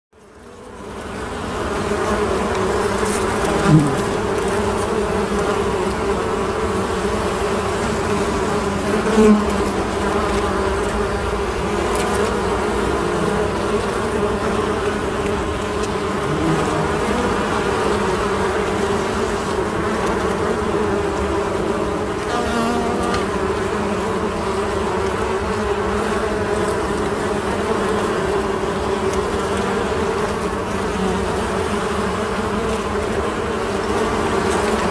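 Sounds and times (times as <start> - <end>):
bees buzzing hum: 0.2 - 34.9
single bee buzzing past: 0.2 - 34.9.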